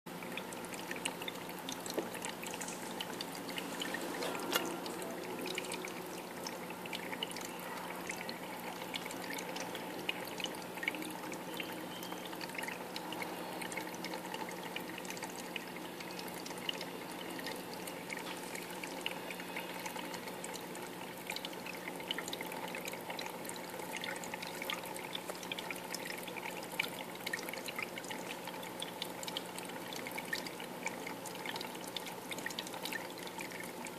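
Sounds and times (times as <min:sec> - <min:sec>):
aquarium water trickling and splashing: 0:00.1 - 0:33.9.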